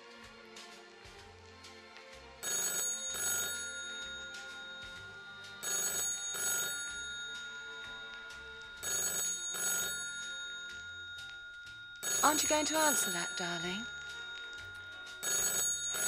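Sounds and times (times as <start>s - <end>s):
soft background music: 0.0s - 16.0s
telephone ringing: 2.4s - 16.0s.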